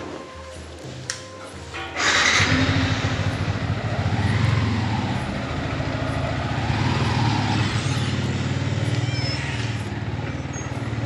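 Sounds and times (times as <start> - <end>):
engine starting and humming: 1.8 - 11.0.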